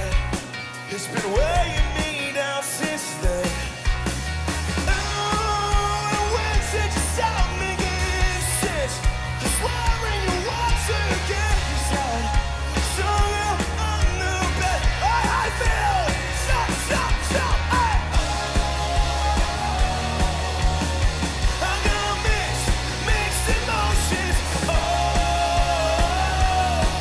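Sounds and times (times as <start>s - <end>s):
person singing lead vocal: 0.0s - 3.9s, 4.8s - 27.0s
bass guitar: 0.0s - 27.0s
drums: 0.0s - 27.0s
electric guitars: 0.0s - 27.0s.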